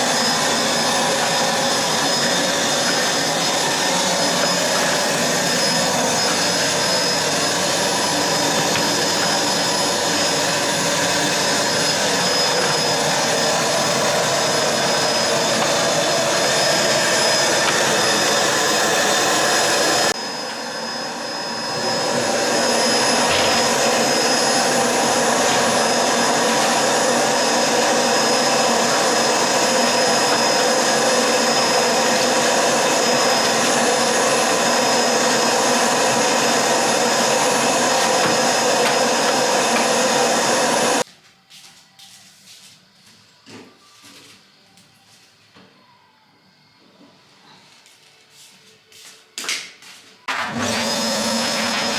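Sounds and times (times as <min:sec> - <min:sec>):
vacuum cleaner running: 0:00.0 - 0:41.1, 0:50.2 - 0:51.9.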